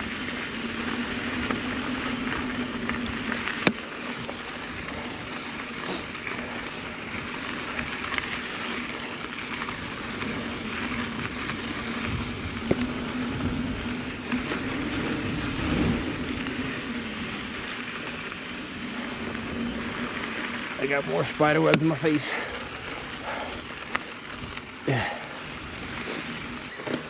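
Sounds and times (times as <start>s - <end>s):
bike tyre and wind rush: 0.0s - 27.0s.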